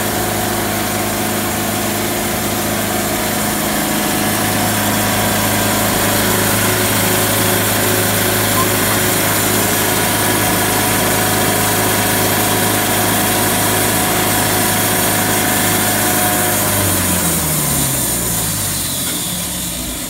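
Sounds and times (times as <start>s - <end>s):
band sawmill cutting log: 0.0s - 20.0s.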